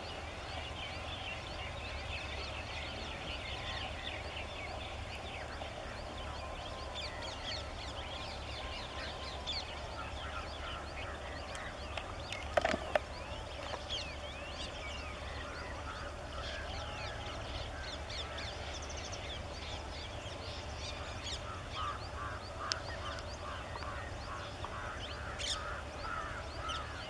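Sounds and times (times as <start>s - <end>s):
birds chirping and chattering: 0.0s - 27.0s.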